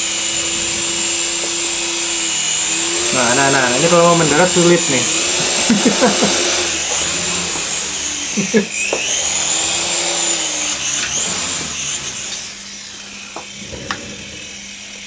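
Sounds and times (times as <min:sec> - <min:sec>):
toy helicopter rotors whining: 0:00.0 - 0:15.0.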